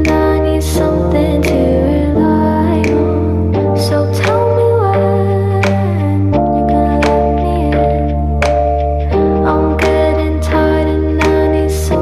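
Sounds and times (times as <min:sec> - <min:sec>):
light steady beat: 0:00.0 - 0:10.6
bass line: 0:00.0 - 0:12.0
keyboard chords: 0:00.0 - 0:12.0.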